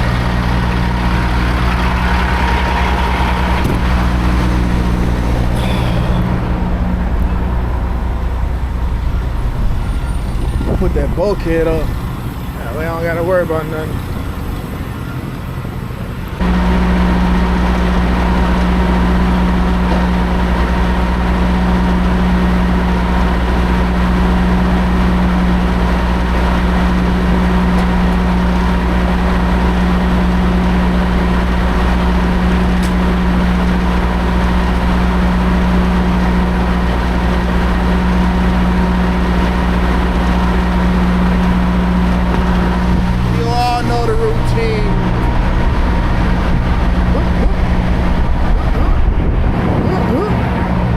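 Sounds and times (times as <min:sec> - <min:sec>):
diesel truck engine running: 0:00.0 - 0:50.9.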